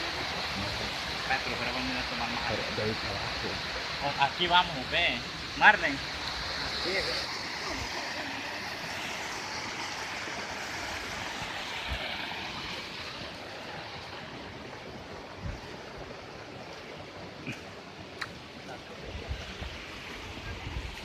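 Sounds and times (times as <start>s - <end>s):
stream water flowing over rocks: 0.0s - 21.0s.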